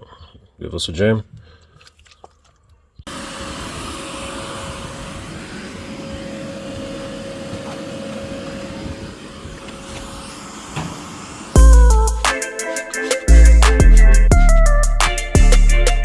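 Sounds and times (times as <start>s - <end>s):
vacuum cleaner running: 3.1s - 16.0s.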